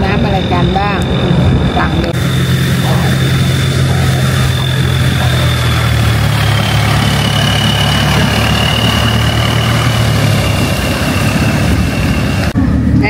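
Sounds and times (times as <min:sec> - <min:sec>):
boat engine running: 0:00.0 - 0:13.0
high engine whine: 0:00.0 - 0:13.0.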